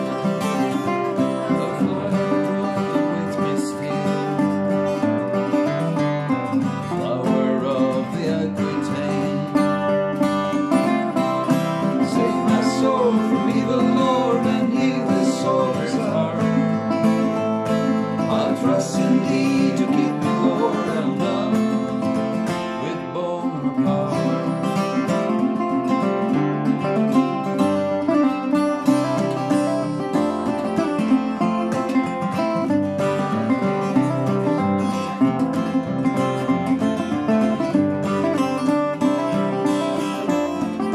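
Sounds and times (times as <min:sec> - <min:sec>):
resonator guitar: 0:00.0 - 0:40.9
steel-string acoustic guitar: 0:00.0 - 0:40.9.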